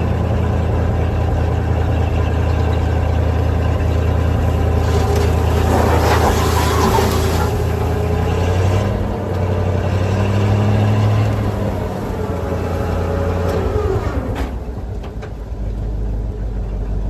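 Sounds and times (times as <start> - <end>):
truck engine running: 0.0 - 17.0
falling engine whine: 0.6 - 14.5.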